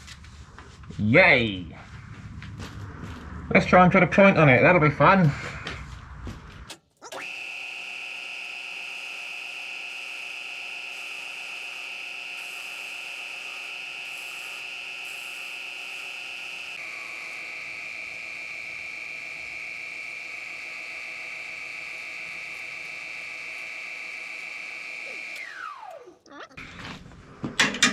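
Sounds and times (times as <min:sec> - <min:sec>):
wood lathe motor whine: 0:04.2 - 0:27.9.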